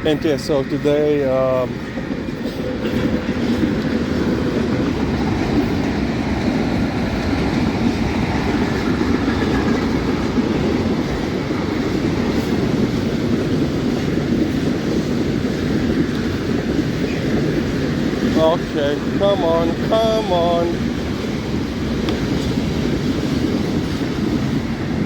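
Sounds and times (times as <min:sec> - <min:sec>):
freight train wheels on track: 0:00.0 - 0:25.0.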